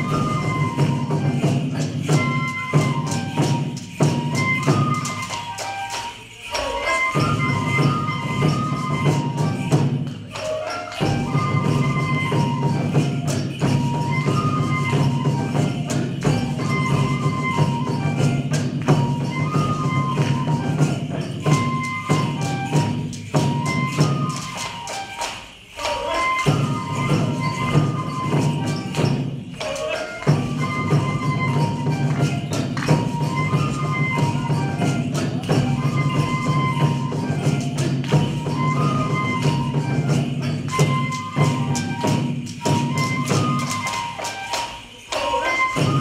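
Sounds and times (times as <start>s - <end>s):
bamboo flute melody: 0.0s - 46.0s
drum strokes: 0.0s - 46.0s
steady jingling: 0.0s - 46.0s.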